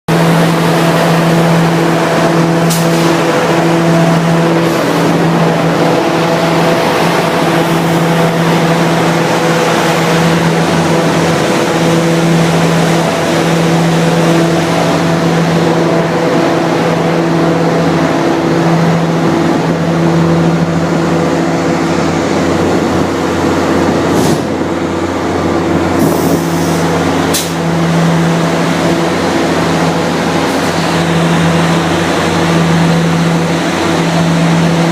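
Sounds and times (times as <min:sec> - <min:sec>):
diesel locomotive engine running: 0:00.0 - 0:34.9.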